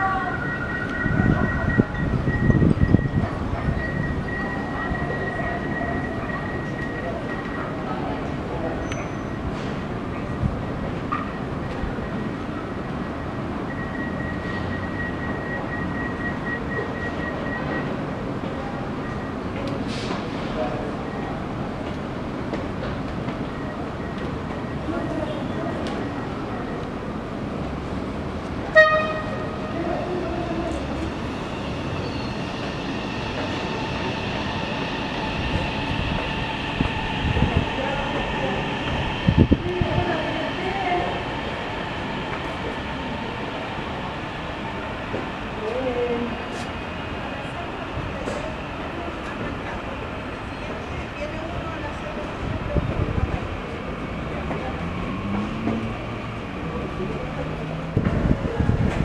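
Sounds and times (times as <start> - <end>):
train rail noise: 0.0 - 59.0.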